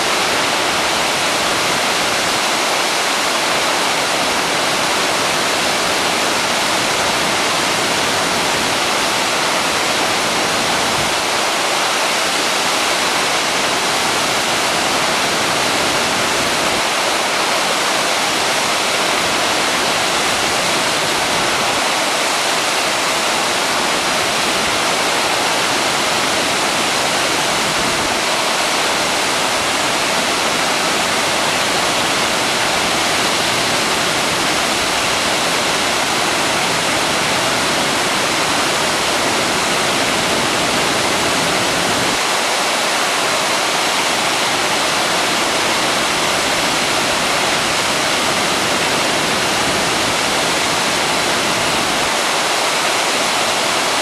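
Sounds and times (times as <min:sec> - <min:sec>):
waterfall rushing under ice: 0:00.0 - 0:54.0.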